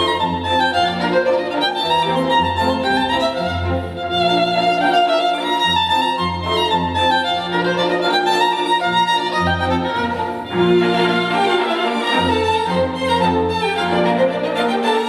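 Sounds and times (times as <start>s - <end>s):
violin music with bass line: 0.0s - 15.0s.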